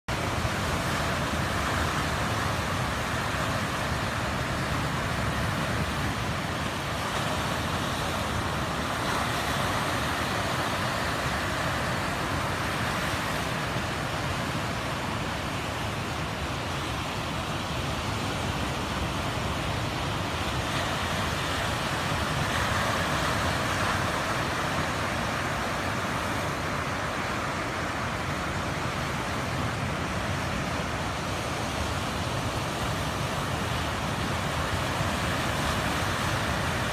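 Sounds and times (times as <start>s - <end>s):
ocean surf breaking on a beach: 0.1s - 36.9s.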